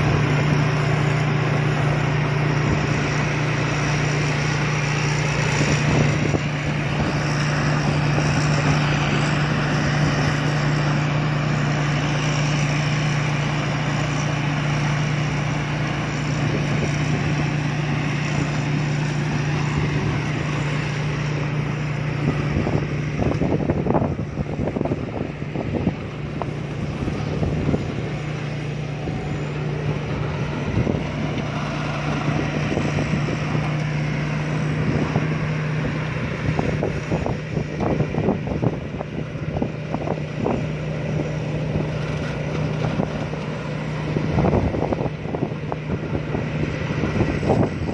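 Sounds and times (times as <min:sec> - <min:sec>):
combine harvester engine humming: 0:00.0 - 0:47.9.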